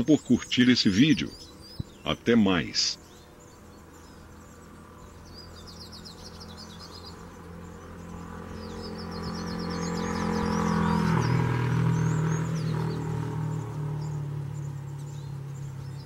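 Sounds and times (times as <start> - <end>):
bird singing high trills: 0.0 - 16.0
low engine hum: 0.0 - 16.0.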